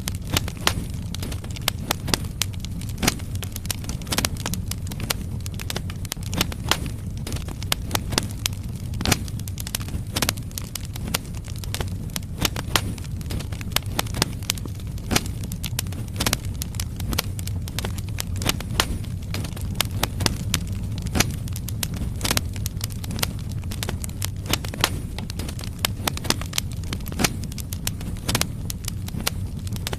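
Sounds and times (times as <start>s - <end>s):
fire rumbling: 0.0s - 29.9s
logs crackling and popping: 0.0s - 29.9s.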